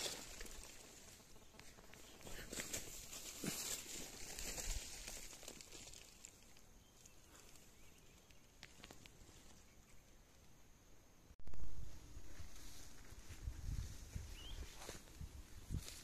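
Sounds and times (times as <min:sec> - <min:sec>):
footsteps through field: 0:00.0 - 0:09.6, 0:11.8 - 0:16.0
rustling of rice plants: 0:00.0 - 0:09.8, 0:11.6 - 0:16.0.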